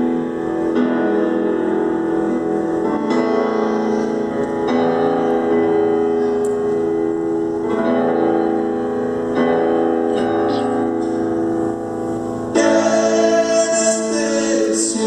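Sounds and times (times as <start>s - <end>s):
grand piano chords: 0.0s - 15.0s.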